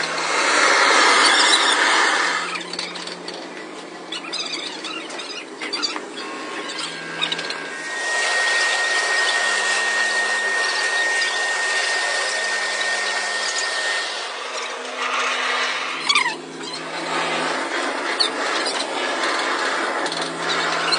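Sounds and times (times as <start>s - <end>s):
power tool whining: 0.0s - 20.9s.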